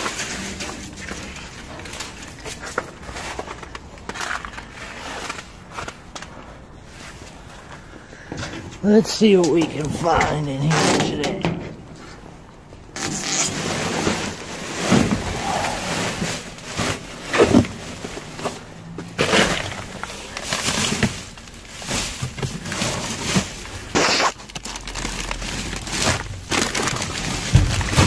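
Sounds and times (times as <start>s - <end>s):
rustling and crinkling groceries: 0.0s - 28.0s.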